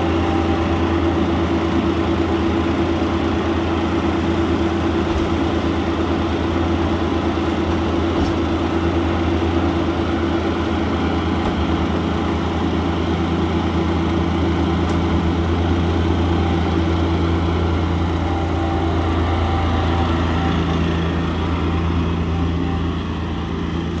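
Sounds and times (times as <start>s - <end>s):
ride-on mower engine running: 0.0s - 24.0s.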